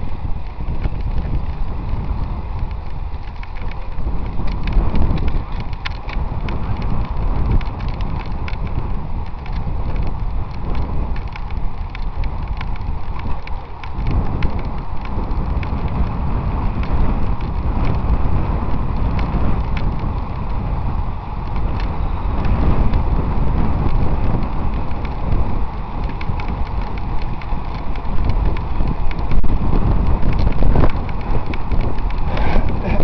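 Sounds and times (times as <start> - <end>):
bike clicks and rattles: 0.0 - 33.0
wind buffeting microphone: 0.0 - 33.0.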